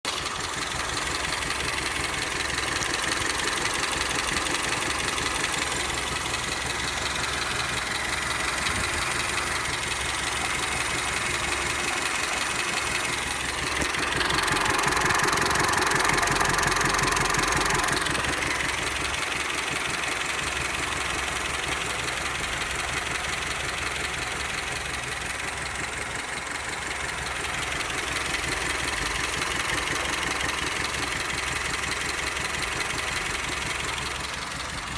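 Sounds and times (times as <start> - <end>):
car engine idling: 0.0 - 34.9
metallic knocking in engine: 0.1 - 34.9.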